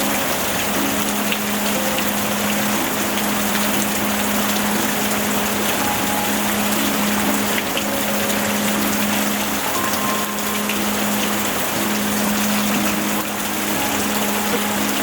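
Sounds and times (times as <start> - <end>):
low steady tone: 0.0 - 15.0
steady rain hiss: 0.0 - 15.0.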